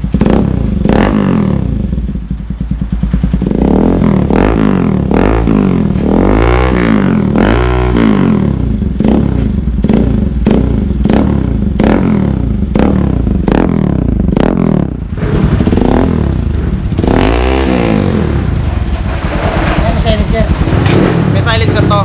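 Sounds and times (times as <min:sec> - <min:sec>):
exhaust cracks: 0:00.0 - 0:22.0
motorcycle engine revving: 0:00.0 - 0:22.0.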